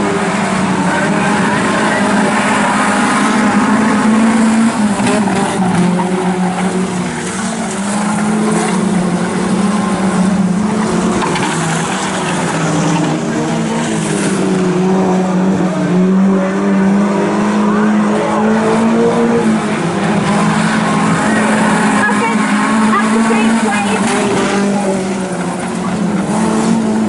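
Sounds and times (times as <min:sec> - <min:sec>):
race car engines running hard: 0:00.0 - 0:27.0.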